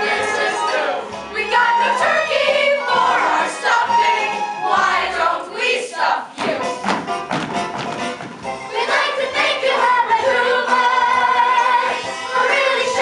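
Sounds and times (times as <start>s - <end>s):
ensemble singing a musical chorus: 0.0s - 6.8s, 8.7s - 13.0s.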